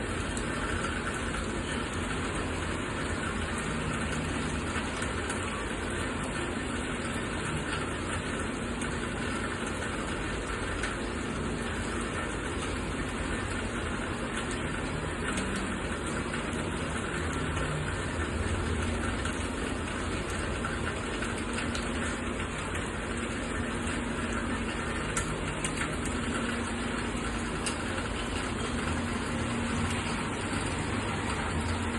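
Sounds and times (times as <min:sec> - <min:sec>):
steady rain: 0:00.0 - 0:31.9.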